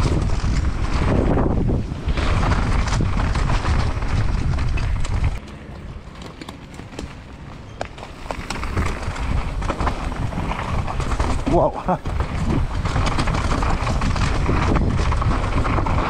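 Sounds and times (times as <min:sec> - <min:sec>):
wind on microphone: 0:00.0 - 0:05.4, 0:08.4 - 0:16.0
bike clicks and rattles: 0:00.0 - 0:16.0
bike tyre rumble: 0:00.0 - 0:16.0.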